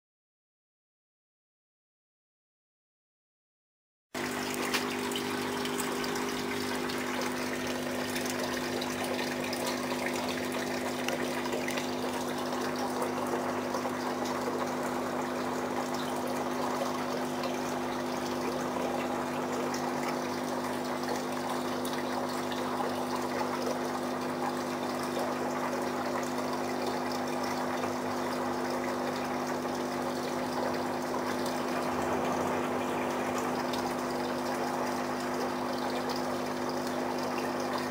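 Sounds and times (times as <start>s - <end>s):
filter pump hum: 4.2s - 37.9s
water trickling and splashing: 4.2s - 37.9s.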